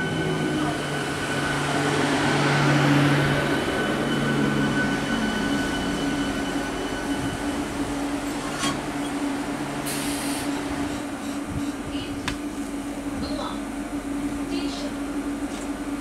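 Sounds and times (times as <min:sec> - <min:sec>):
train electrical equipment humming: 0:00.0 - 0:16.0.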